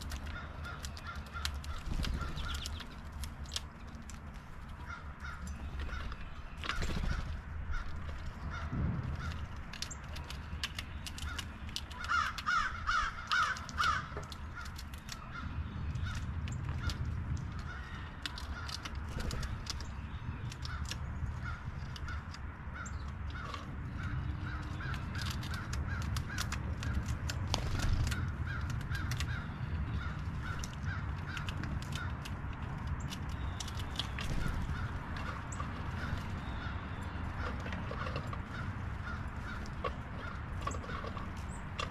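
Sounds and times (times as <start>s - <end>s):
steady low rumble: 0.0s - 41.9s
crows cawing: 0.1s - 2.7s, 4.8s - 9.6s, 11.2s - 19.6s, 20.6s - 27.1s, 27.8s - 32.3s, 34.3s - 41.9s.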